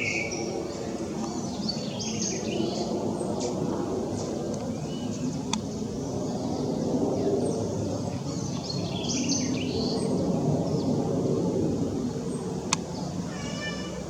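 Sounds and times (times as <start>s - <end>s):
jet aircraft flying over: 0.0s - 14.0s.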